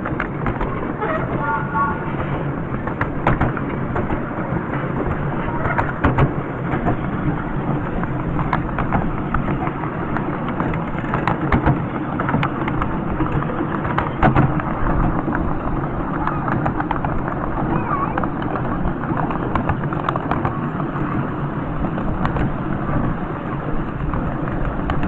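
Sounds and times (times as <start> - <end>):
miniature train rumbling along track: 0.0 - 25.0
wheels clicking and knocking: 0.0 - 25.0.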